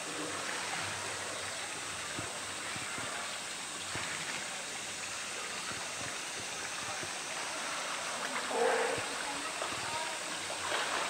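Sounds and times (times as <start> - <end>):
water pouring into a pool: 0.0 - 11.0
water sloshing: 0.0 - 11.0.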